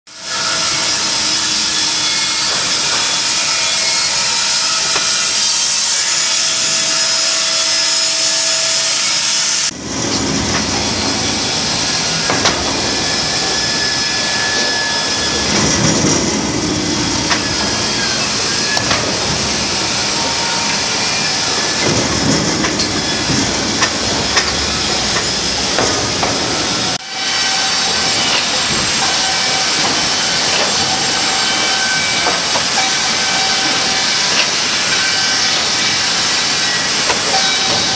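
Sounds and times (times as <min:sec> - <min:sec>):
sawmill machinery running: 0:00.1 - 0:37.9
saws hissing: 0:00.2 - 0:37.9.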